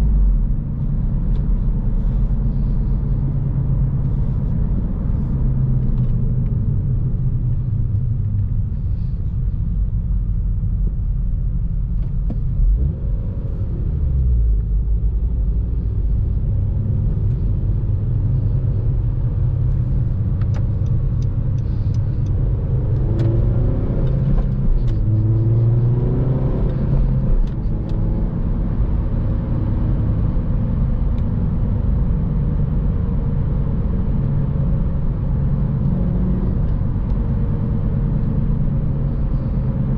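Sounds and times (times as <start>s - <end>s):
car engine while driving: 0.0s - 39.9s
road noise: 0.0s - 39.9s.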